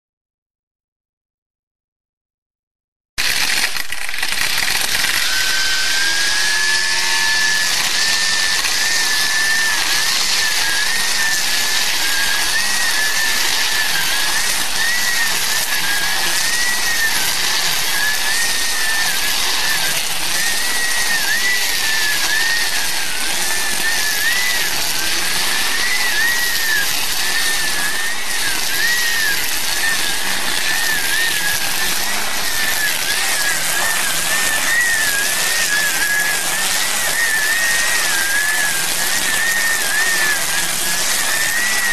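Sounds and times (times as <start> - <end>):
string trimmer cutting grass: 3.2 - 41.9.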